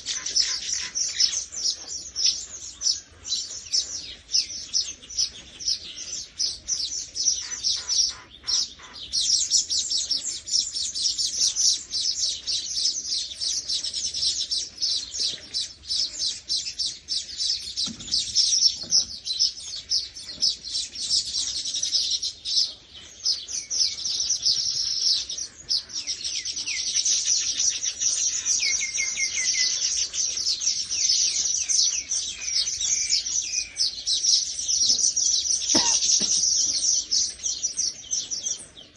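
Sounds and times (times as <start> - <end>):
lower bird calls: 0.0 - 38.9
small birds chirping: 0.0 - 38.9.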